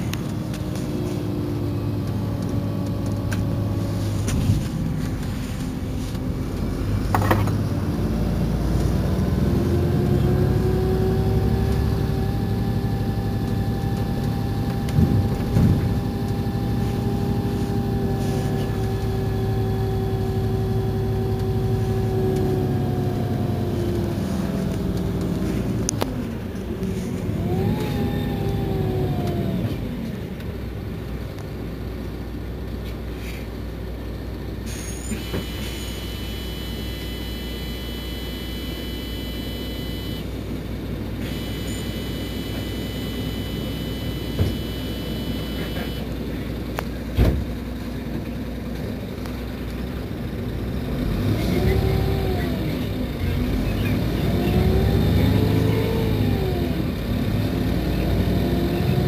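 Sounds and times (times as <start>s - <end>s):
bus engine accelerating: 0.0s - 59.0s.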